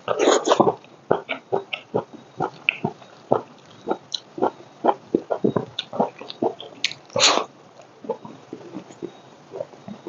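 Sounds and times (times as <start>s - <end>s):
person chewing wetly: 0.1s - 10.0s.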